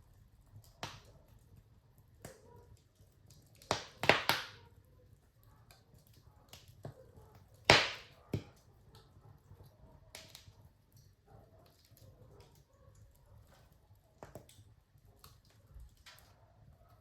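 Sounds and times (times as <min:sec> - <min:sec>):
burning logs popping: 0:00.0 - 0:17.0
wood fire crackling: 0:00.0 - 0:17.0.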